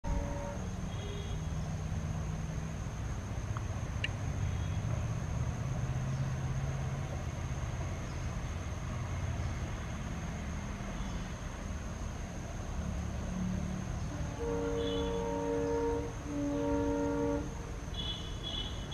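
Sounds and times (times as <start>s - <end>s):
diesel locomotive rumble: 0.0s - 18.9s
insect buzz: 0.1s - 18.9s.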